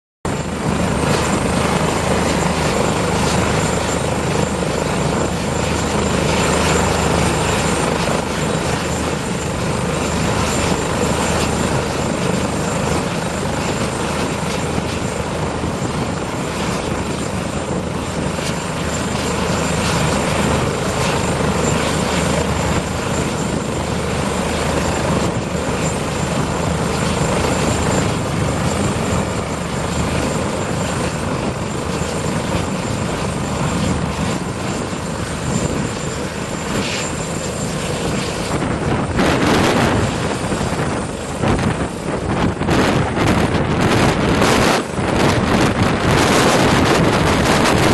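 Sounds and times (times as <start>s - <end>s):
helicopter rotor noise: 0.2s - 47.9s
high turbine whine: 0.3s - 47.9s.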